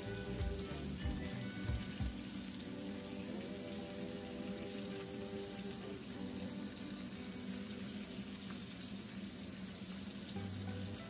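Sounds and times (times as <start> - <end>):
fish fillets sizzling in oil: 0.0 - 11.0.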